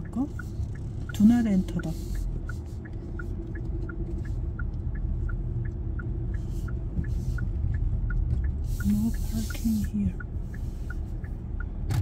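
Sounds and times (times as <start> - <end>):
road rumble inside car: 0.0 - 12.0
turn signal clicking: 0.0 - 12.0.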